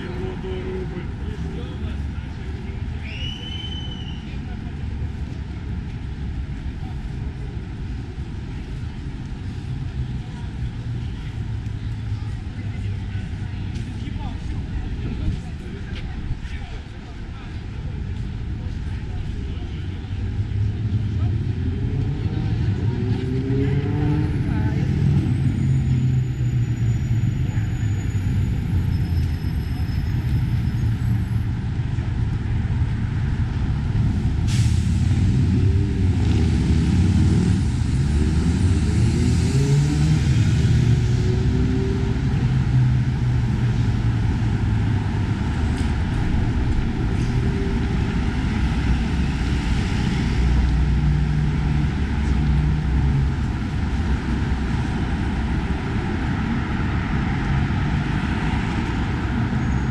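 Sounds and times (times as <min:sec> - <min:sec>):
heavy vehicle engines rumbling: 0:00.0 - 0:59.9.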